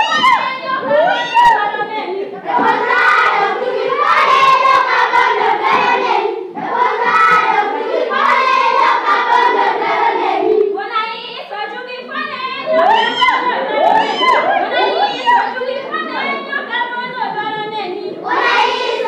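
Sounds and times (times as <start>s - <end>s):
children's choir singing: 0.0s - 11.1s, 12.0s - 19.0s.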